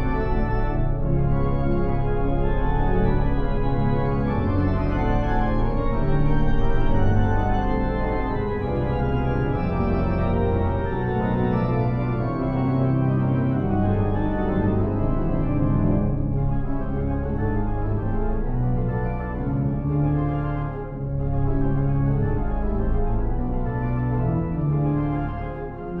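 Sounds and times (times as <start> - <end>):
deep organ pedal bass: 0.0 - 26.0
pipe organ chords: 0.0 - 26.0.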